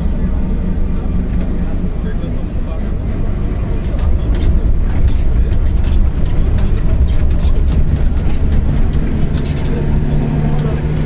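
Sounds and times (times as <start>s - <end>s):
bus diesel engine growling: 0.0s - 11.0s
driveshaft growling: 0.0s - 11.0s
light rattles: 0.0s - 11.0s.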